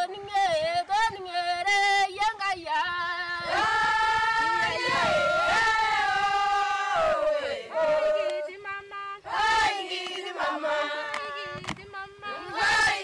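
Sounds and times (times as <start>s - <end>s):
women singing together: 0.0s - 13.0s.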